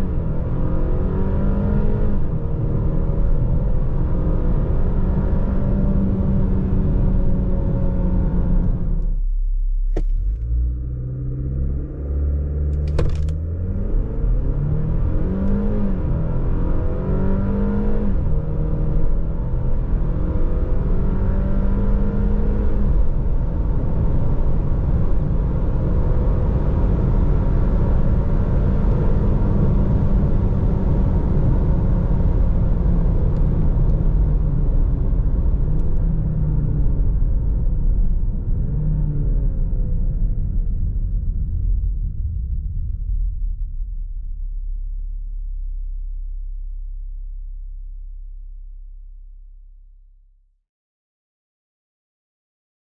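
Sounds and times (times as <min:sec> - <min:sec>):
road rumble: 0:00.0 - 0:48.4
car engine accelerating: 0:00.0 - 0:48.8.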